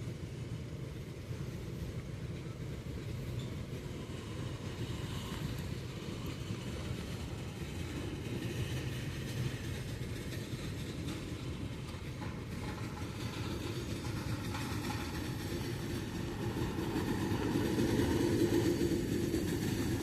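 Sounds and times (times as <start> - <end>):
freight train rumbling slowly: 0.0 - 20.0.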